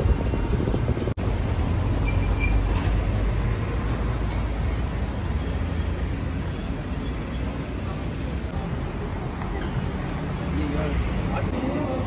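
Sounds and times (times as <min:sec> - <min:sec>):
city street rumble: 0:00.0 - 0:12.0.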